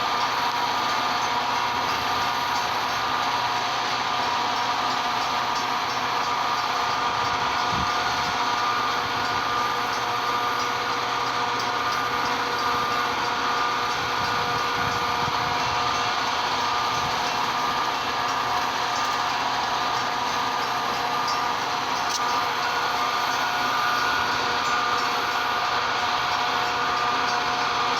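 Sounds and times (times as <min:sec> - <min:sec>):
high steady tones: 0:00.0 - 0:27.9
train running: 0:00.0 - 0:27.9.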